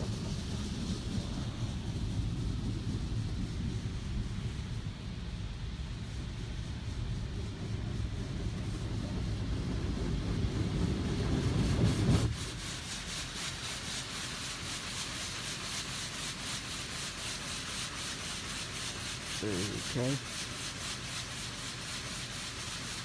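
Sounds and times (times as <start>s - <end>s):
car wash rumble: 0.0s - 23.0s
water spray hissing on car: 0.0s - 23.0s.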